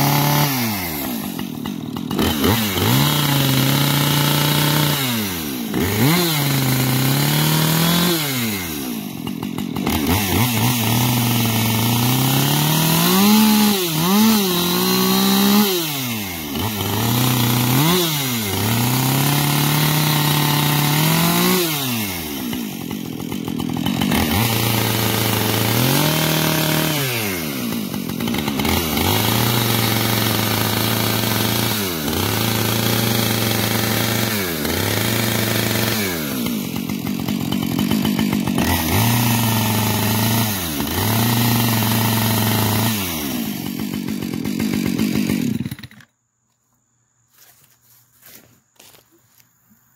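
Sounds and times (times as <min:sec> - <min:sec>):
chainsaw revving and idling: 0:00.0 - 0:46.2.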